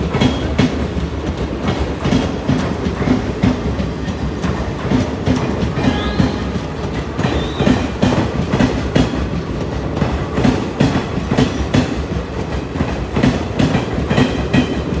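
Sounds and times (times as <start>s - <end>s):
train rumble: 0.0s - 15.0s
train wheels clacking over rail joints: 0.0s - 15.0s.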